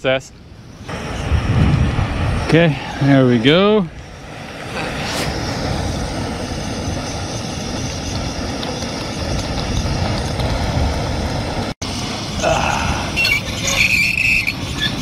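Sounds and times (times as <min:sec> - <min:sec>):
camp stove hissing: 0:00.0 - 0:15.0
wind rumble on microphone: 0:00.4 - 0:15.0.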